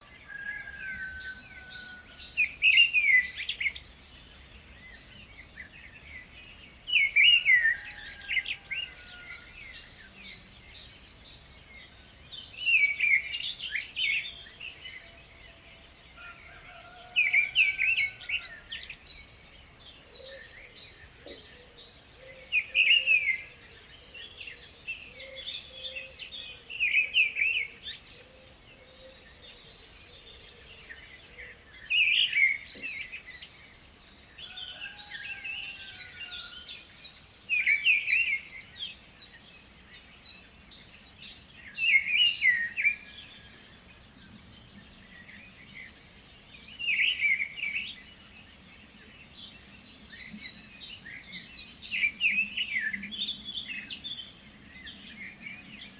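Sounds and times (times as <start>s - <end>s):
birds chirping high: 0.0s - 55.9s.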